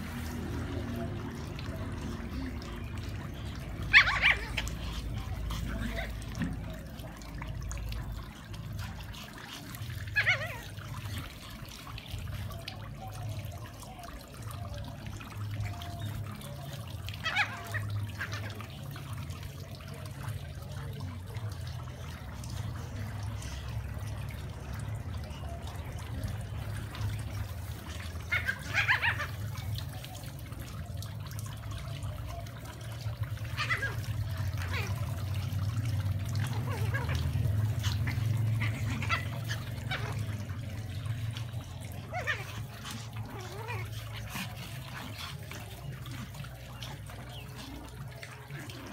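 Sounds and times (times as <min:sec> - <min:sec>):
low background hum: 0:00.1 - 0:48.9
small dogs yipping: 0:02.1 - 0:12.5, 0:15.9 - 0:24.3, 0:25.3 - 0:30.3, 0:32.3 - 0:48.9.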